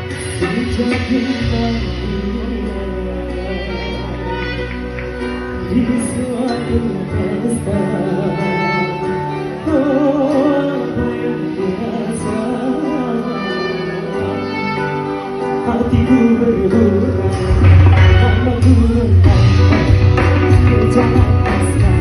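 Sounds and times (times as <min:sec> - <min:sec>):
live band instrumental music: 0:00.0 - 0:22.0.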